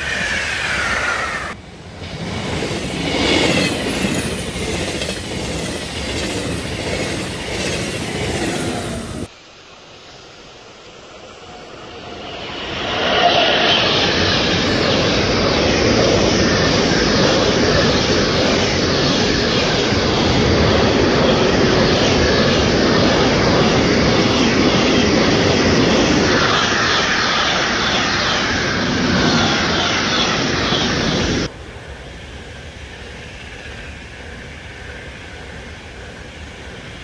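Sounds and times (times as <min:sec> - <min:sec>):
freight train wheels rolling on rails: 0:00.0 - 0:37.0
high-speed train passing: 0:00.0 - 0:37.0.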